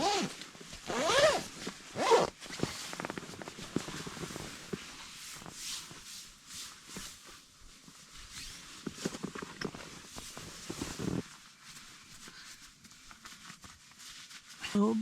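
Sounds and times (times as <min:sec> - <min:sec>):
fabric and gear rustling: 0:00.0 - 0:15.0.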